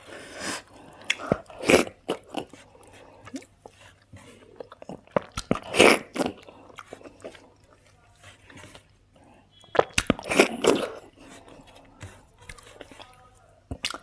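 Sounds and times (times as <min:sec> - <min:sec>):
crunchy chewing: 0:00.0 - 0:14.0.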